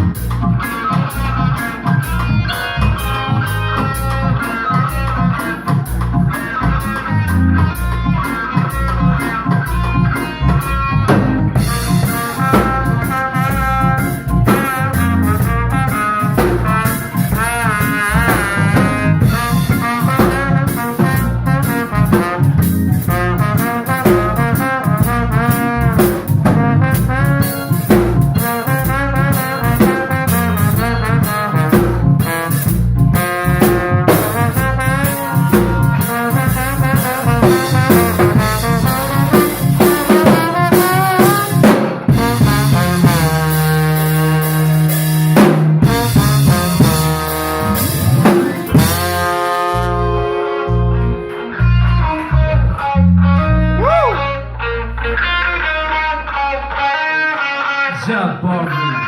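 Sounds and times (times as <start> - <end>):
jazz band with horns and drums: 0.0 - 55.4.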